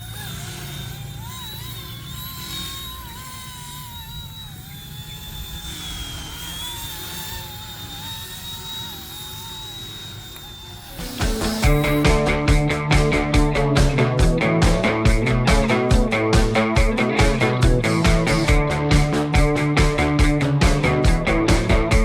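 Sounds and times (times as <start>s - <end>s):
rc helicopter rotors whining: 0.0s - 22.0s.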